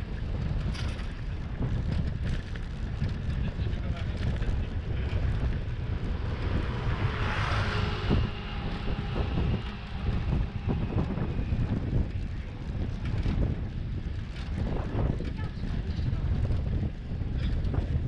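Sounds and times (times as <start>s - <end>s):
bicycle tyres rattling over bricks: 0.0s - 6.9s, 8.3s - 18.0s
wind buffeting microphone: 0.0s - 18.0s.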